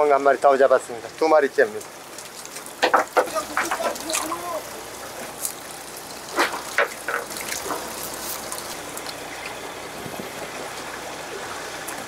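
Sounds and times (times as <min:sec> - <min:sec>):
sea water lapping against boat: 0:00.0 - 0:12.0.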